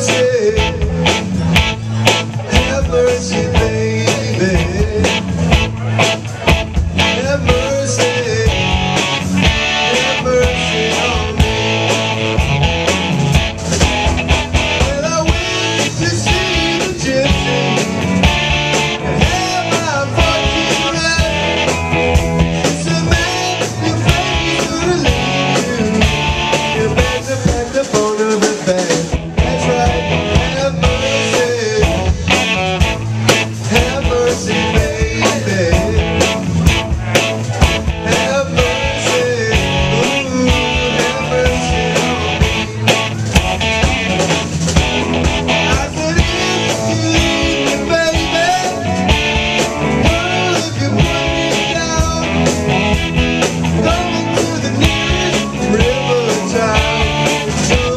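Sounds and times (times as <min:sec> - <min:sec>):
live band playing: 0:00.0 - 0:57.9.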